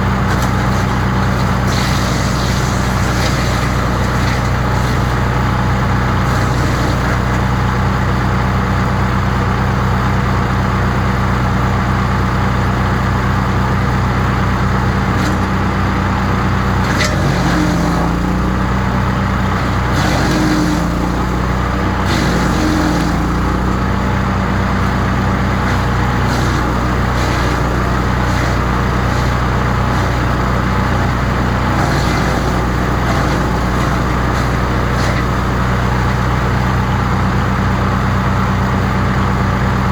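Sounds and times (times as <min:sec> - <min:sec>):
woodchipper engine running: 0:00.0 - 0:39.9.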